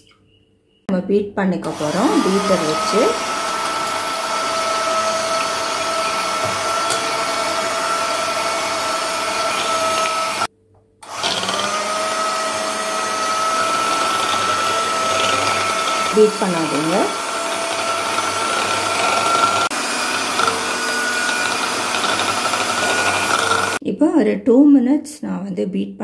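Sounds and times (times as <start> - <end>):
electric hand mixer whine: 1.6 - 23.8.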